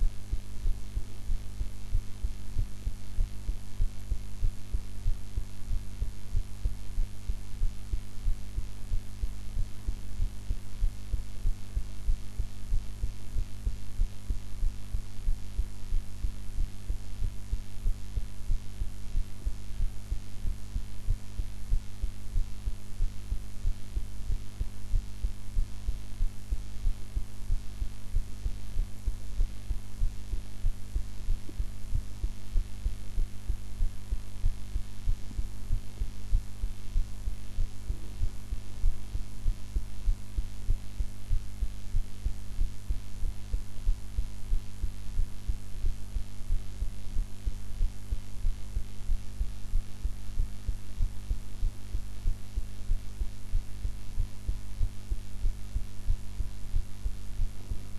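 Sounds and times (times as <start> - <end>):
constant hum: 0.0 - 57.9
heartbeat thuds: 0.0 - 57.9.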